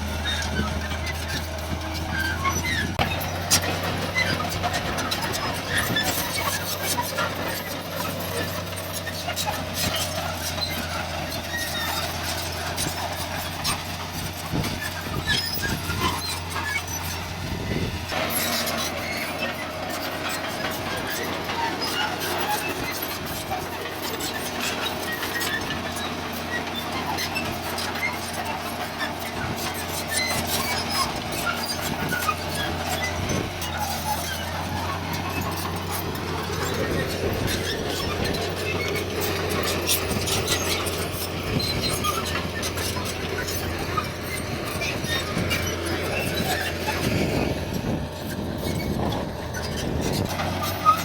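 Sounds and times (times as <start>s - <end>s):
heavy diesel machinery running: 0.0s - 51.0s.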